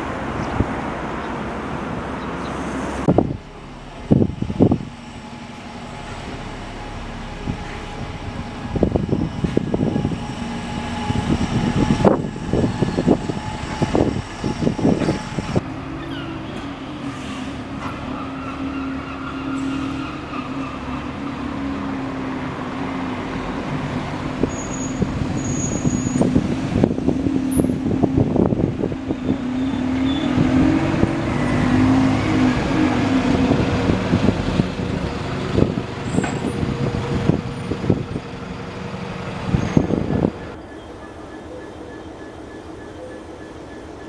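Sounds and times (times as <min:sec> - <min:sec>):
diesel engine drone: 0:00.0 - 0:44.0.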